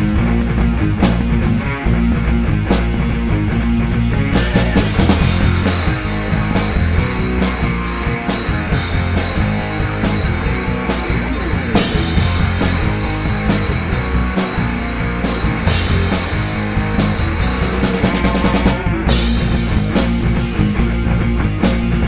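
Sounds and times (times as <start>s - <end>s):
drum kit beat: 0.0s - 22.0s
electric bass: 0.0s - 22.0s
electric guitar: 0.0s - 22.0s.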